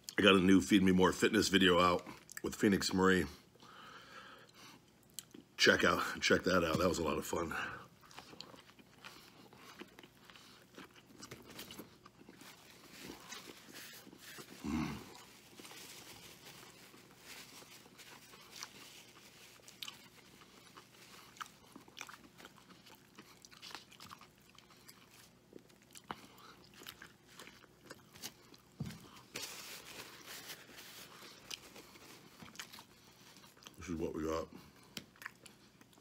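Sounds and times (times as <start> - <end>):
man chewing food: 3.5 - 5.6, 7.5 - 33.8, 34.6 - 36.0.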